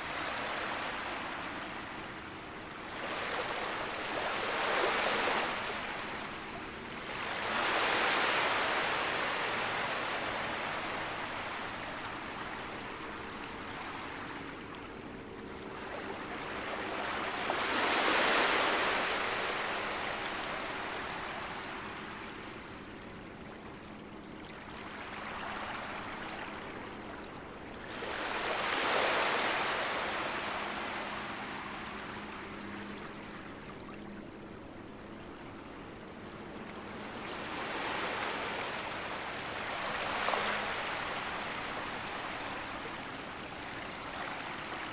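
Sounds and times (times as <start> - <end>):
sea waves lapping on beach: 0.0 - 23.4, 27.7 - 44.9.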